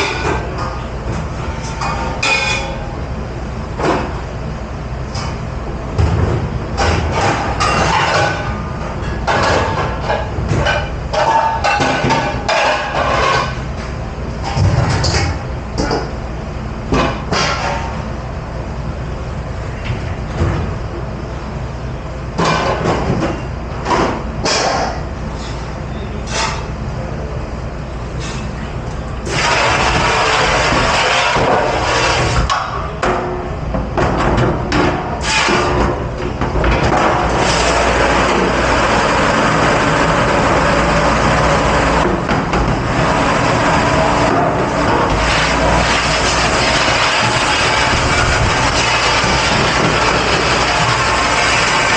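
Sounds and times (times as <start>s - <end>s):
low machine rumble: 0.0s - 51.9s.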